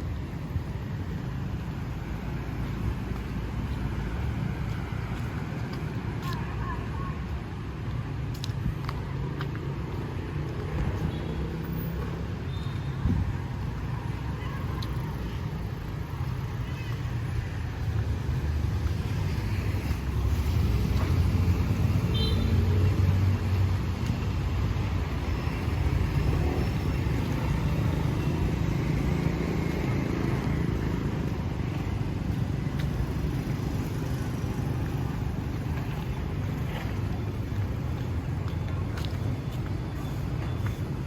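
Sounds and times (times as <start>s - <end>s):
street traffic rumble: 0.0s - 41.0s.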